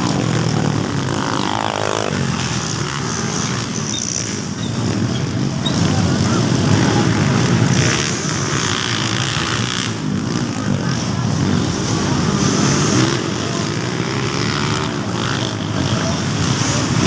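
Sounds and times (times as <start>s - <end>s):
dirt bike engines buzzing: 0.0s - 17.0s.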